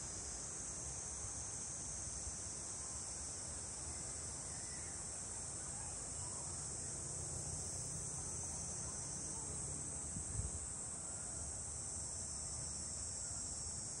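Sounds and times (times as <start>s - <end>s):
insects chorus: 0.4s - 14.0s.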